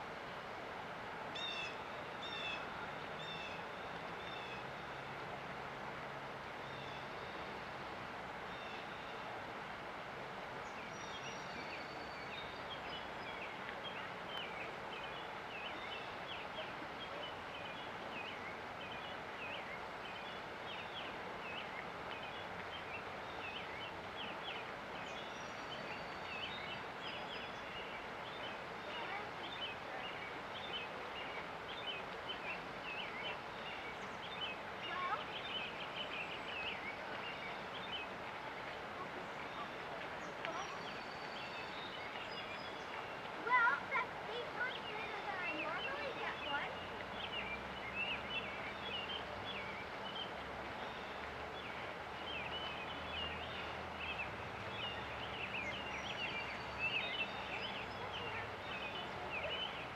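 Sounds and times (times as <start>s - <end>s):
river water rushing: 0.0s - 59.9s
songbirds chirping: 0.0s - 59.9s.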